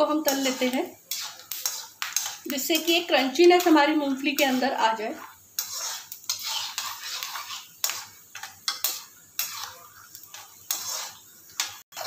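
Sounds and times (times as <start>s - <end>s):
peanuts frying in oil: 0.0s - 12.0s
spoon scraping a frying pan: 0.0s - 12.0s.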